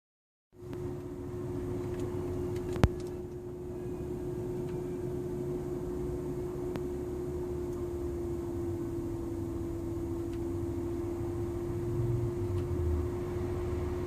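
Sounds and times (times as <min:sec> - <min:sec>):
low engine rumble: 0:00.6 - 0:14.0
steady droning hum: 0:00.6 - 0:14.0.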